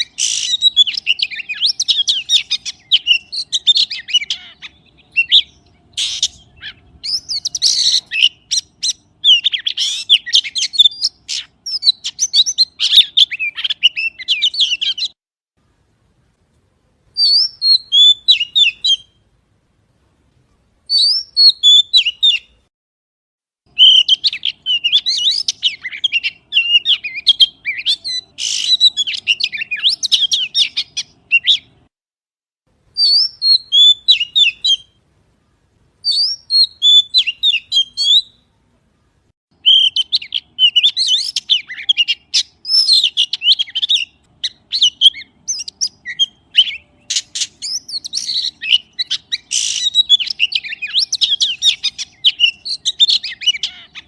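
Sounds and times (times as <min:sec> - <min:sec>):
magpie singing: 0:00.0 - 0:15.2, 0:17.1 - 0:19.2, 0:20.9 - 0:22.6, 0:23.7 - 0:31.9, 0:33.0 - 0:35.0, 0:36.0 - 0:38.5, 0:39.1 - 0:54.0.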